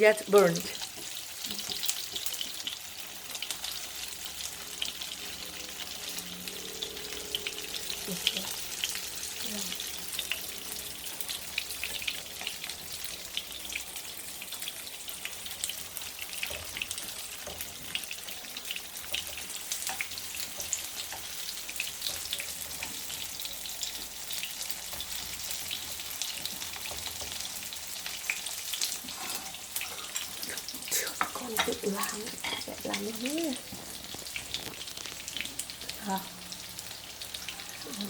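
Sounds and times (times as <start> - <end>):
tofu sizzling in hot oil: 0.0 - 38.0.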